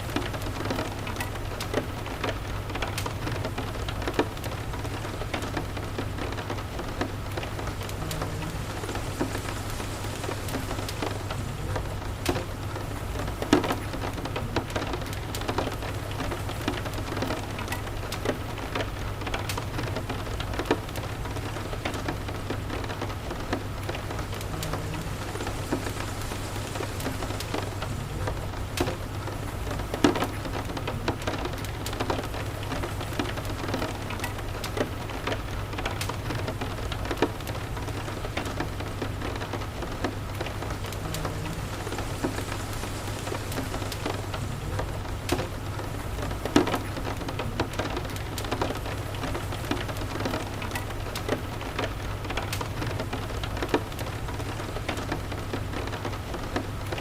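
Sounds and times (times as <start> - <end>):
fireplace crackling and popping: 0.0 - 57.0
steady rain: 0.0 - 57.0.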